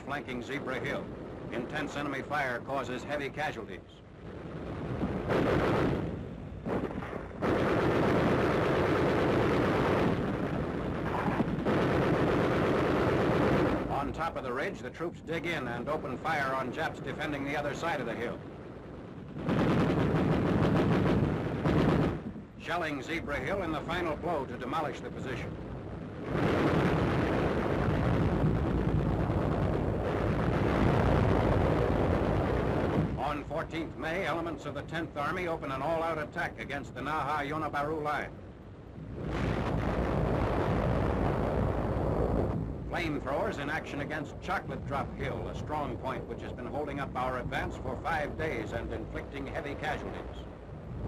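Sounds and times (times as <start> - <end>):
dense rumble of shell bursts: 0.0 - 51.0.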